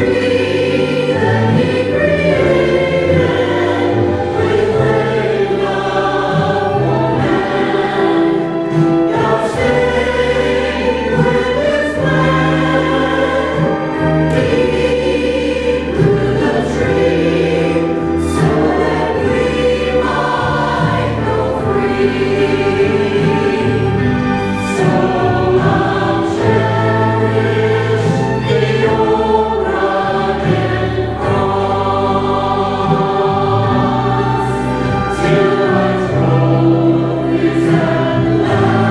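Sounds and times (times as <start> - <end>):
choir singing in harmony: 0.0 - 38.9.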